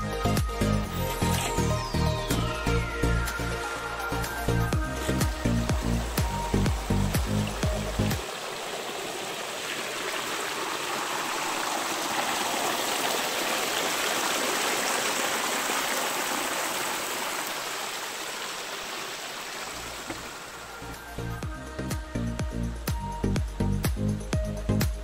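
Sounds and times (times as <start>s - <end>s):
creek splashing down a waterfall: 1.0s - 21.4s.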